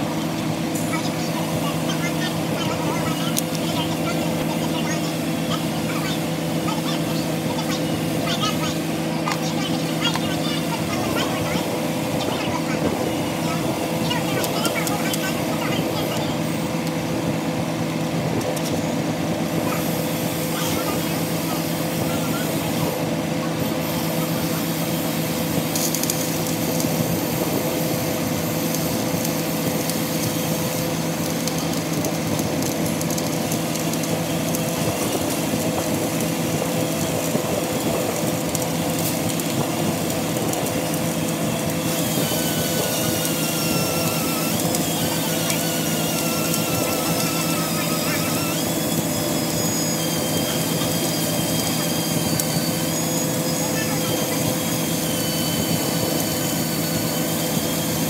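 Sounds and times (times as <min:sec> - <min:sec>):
low machine hum: 0:00.0 - 0:58.0
welding arc crackling: 0:00.0 - 0:58.0.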